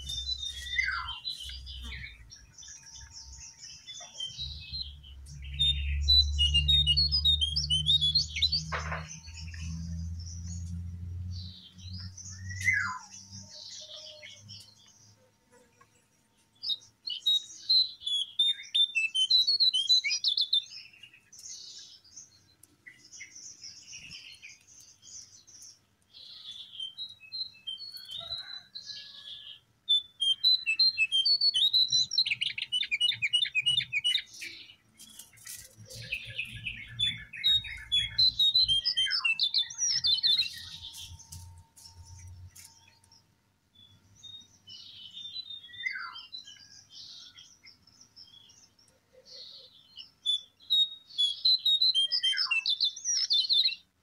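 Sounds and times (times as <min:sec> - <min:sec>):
bird twittering and trilling: 0:00.0 - 0:15.7, 0:16.6 - 0:53.8.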